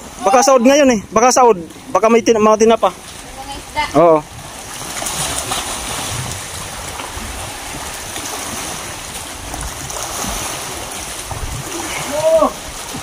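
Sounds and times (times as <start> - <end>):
sea water and small waves: 0.0 - 13.0.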